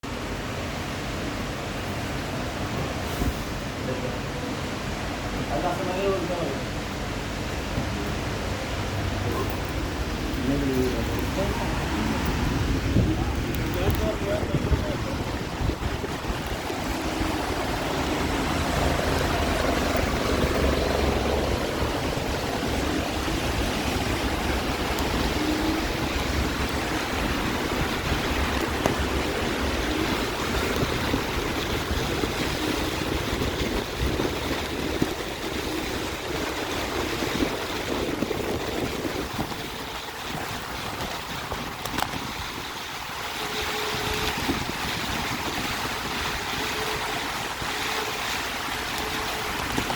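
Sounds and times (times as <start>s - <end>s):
tyres hissing on wet road: 0.1s - 49.9s
wind rushing on microphone: 0.1s - 49.9s.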